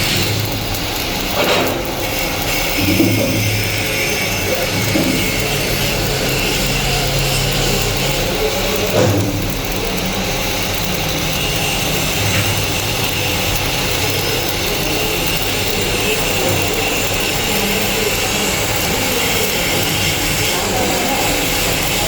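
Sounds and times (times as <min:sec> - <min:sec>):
welding arc hissing: 0:00.0 - 0:22.0.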